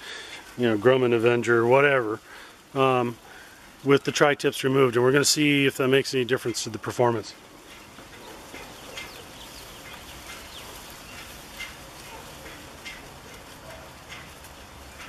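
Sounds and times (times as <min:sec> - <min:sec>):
faint outdoor background noise: 0:00.0 - 0:15.0
birds chirping: 0:02.2 - 0:15.0.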